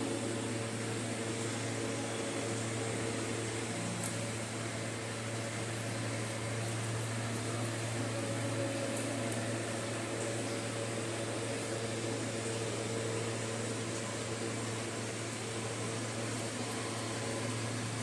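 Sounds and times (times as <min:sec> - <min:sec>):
ventilation hum: 0:00.0 - 0:18.0.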